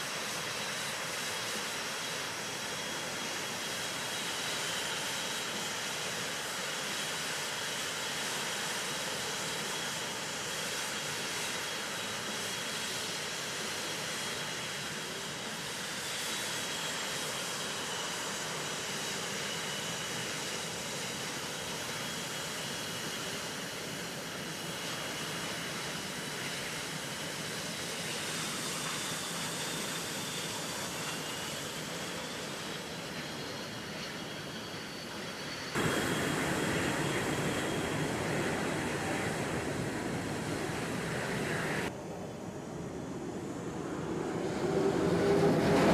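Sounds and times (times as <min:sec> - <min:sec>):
high turbine whine: 0:00.0 - 0:45.9
jet noise: 0:00.0 - 0:45.9.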